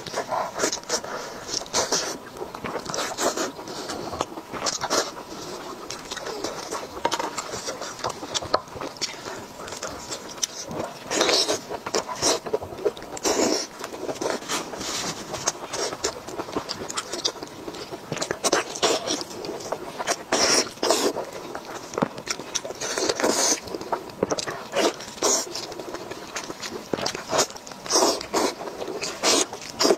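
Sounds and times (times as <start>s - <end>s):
lip smacks and chewing: 0.0s - 29.9s
slurping: 0.0s - 29.9s.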